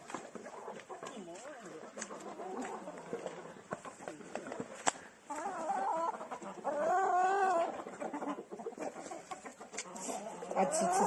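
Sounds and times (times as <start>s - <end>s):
chickens clucking: 0.0s - 11.0s
drawn-out chicken calls: 0.0s - 11.0s.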